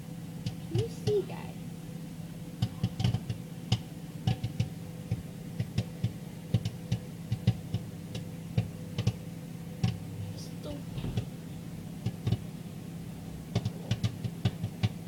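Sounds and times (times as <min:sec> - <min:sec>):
microwave humming: 0:00.0 - 0:15.0
popcorn popping: 0:00.4 - 0:01.4, 0:02.5 - 0:15.0.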